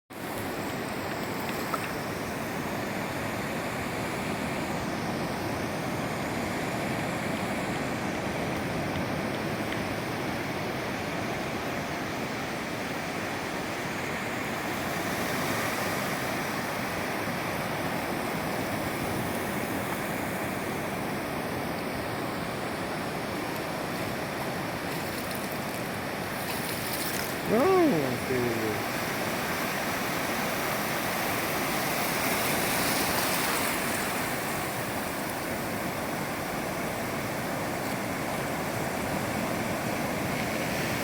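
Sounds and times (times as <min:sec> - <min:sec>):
rushing water: 0:00.2 - 0:41.0.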